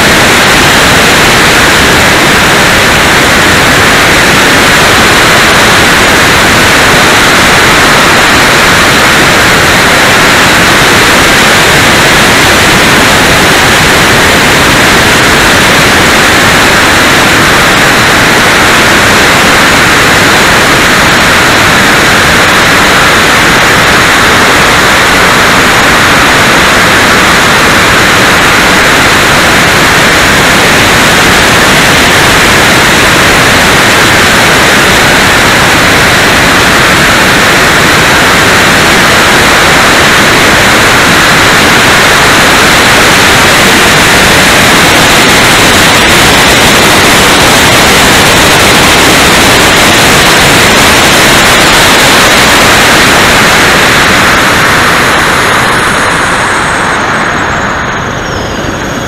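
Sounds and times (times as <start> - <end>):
electric ducted fans: 0.0 - 59.0
rush of air: 0.0 - 59.0.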